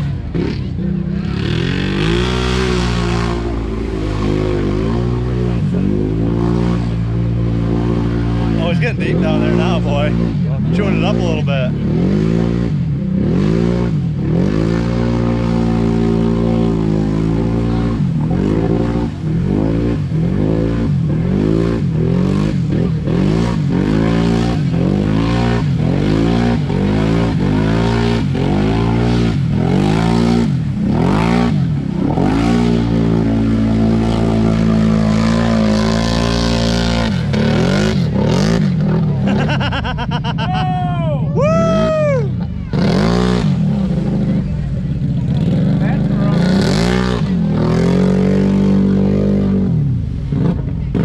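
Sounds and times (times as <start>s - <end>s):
atv engine revving: 0.0s - 51.0s.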